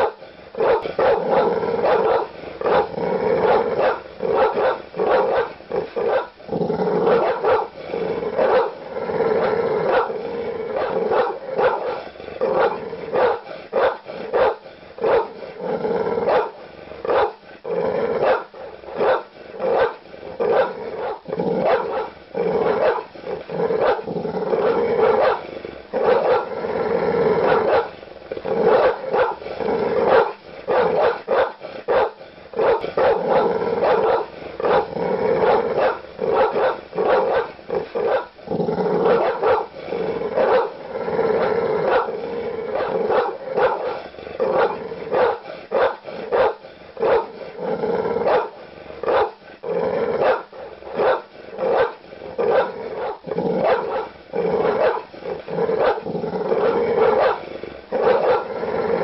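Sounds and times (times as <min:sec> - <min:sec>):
large dog barking: 0:00.0 - 0:17.4, 0:18.0 - 0:26.6, 0:27.2 - 0:59.0.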